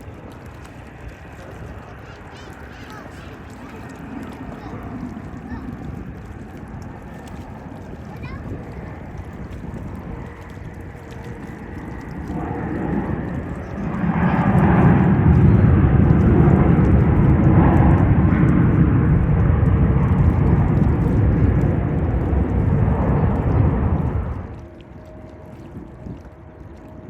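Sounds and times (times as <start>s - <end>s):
jet airliner engine roar: 0.0s - 27.0s.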